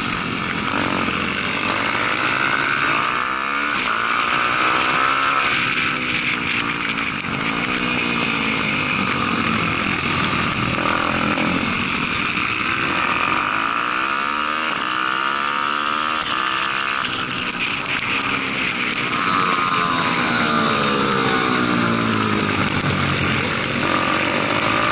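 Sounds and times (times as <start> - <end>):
motorbike engine revving: 0.0 - 24.9.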